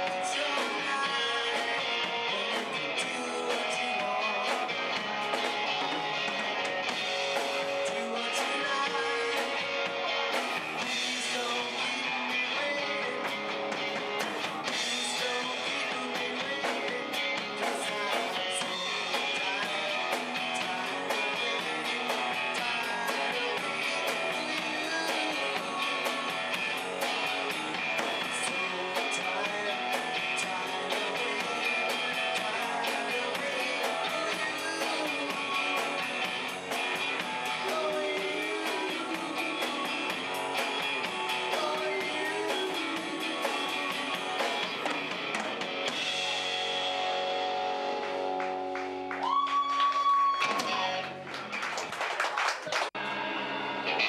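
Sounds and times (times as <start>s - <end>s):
steady drum beat: 0.0s - 49.1s
rock band playing: 0.0s - 54.0s.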